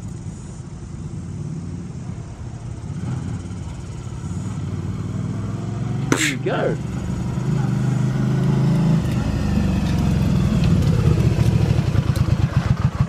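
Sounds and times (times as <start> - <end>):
motorcycle engine approaching: 0.8 - 13.0.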